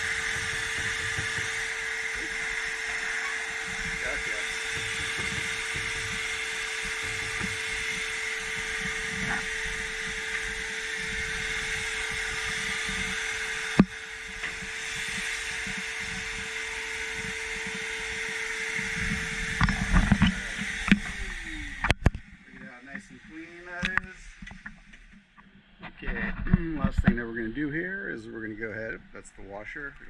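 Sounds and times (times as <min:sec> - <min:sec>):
shop vac motor running: 0:00.0 - 0:25.1.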